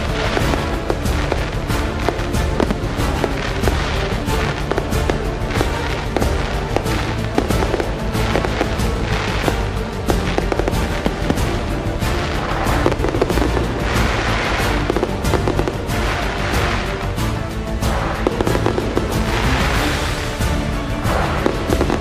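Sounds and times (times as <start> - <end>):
background music: 0.0 - 22.0
fireworks bangs: 0.0 - 22.0
fireworks crackling: 0.0 - 22.0.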